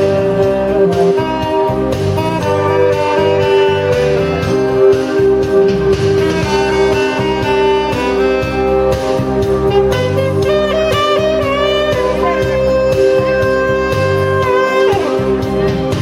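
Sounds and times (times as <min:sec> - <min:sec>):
bass: 0:00.0 - 0:16.0
saxophone playing: 0:00.0 - 0:16.0.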